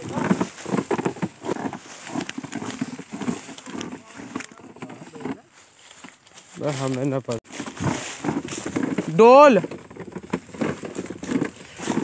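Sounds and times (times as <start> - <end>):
dry leaves crunching and rustling: 0.0 - 12.0.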